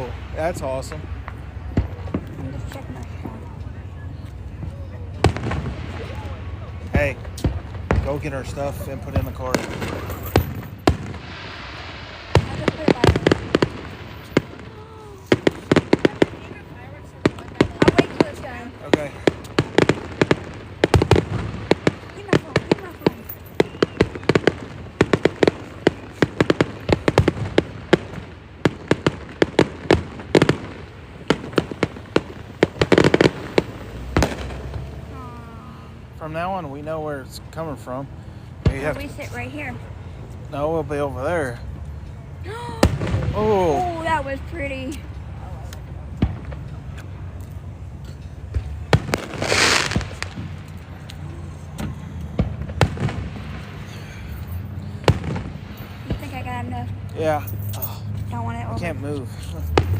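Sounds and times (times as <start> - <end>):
fireworks bangs and pops: 0.0 - 35.4, 36.0 - 59.9.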